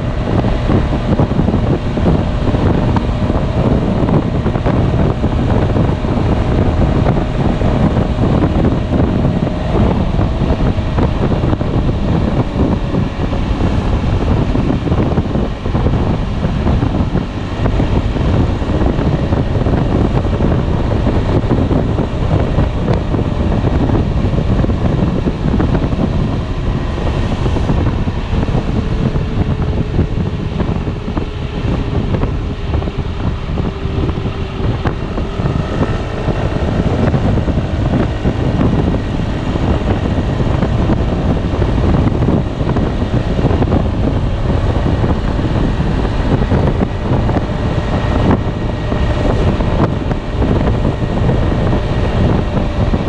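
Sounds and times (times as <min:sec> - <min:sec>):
scooter engine running: 0:00.0 - 0:53.0
wind buffeting microphone: 0:00.0 - 0:53.0.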